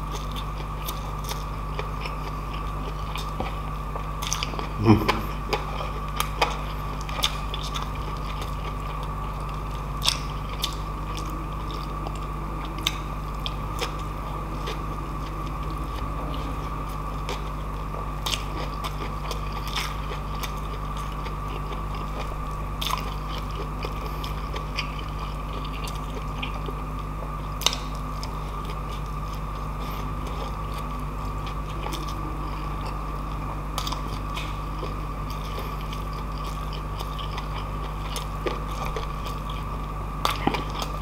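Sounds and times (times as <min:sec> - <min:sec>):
person chewing with mouth clicks: 0:00.0 - 0:41.0
steady hum: 0:00.0 - 0:41.0.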